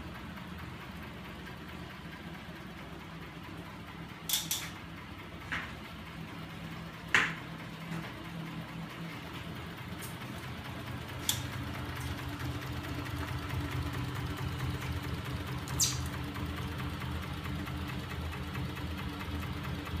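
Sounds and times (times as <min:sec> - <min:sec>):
motor rig hum and rattle: 0:00.0 - 0:20.0.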